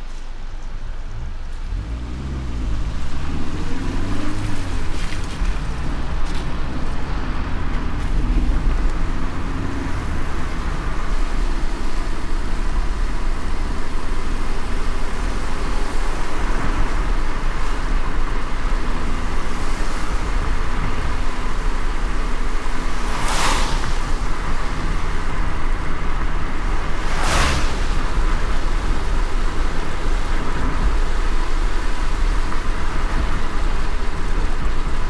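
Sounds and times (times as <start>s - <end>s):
car engine hum: 0.0s - 35.0s
tyre rumble on road: 0.0s - 35.0s.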